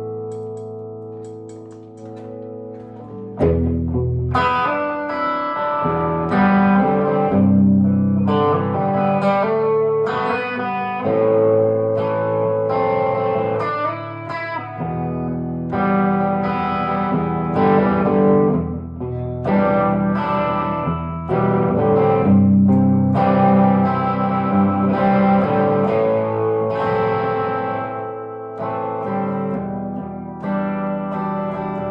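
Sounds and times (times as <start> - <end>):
electric guitar chords ringing: 0.0 - 31.9.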